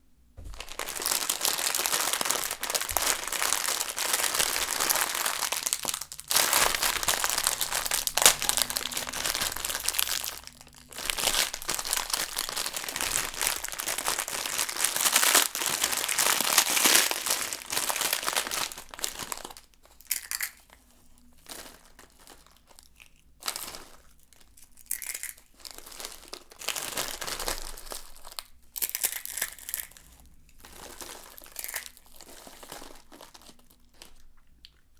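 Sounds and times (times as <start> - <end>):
plastic wrapper crinkling: 0.4 - 34.8
dry noodles crunching: 0.4 - 34.9.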